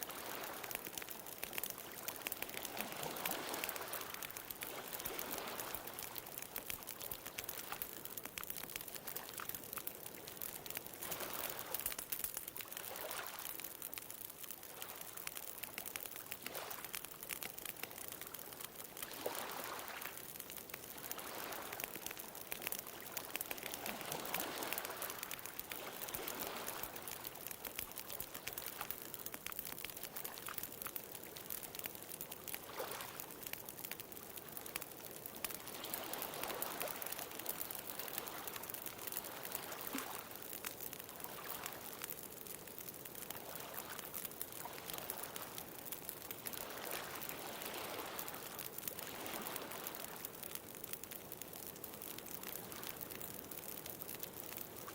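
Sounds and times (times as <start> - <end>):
bonfire crackling: 0.0 - 54.9.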